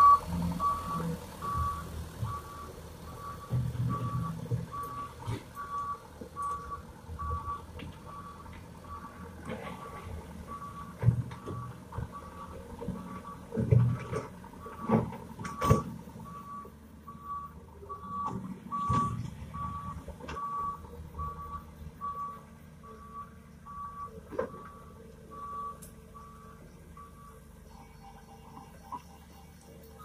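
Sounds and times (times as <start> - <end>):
diesel engine rumble: 0.0 - 30.0
truck reverse warning beeper: 0.0 - 30.0.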